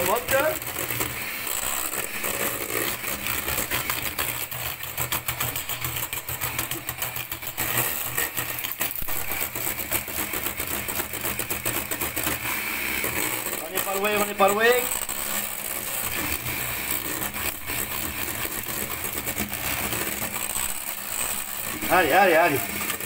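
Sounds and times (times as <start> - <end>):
hand mixer motor hum: 0.0 - 23.0.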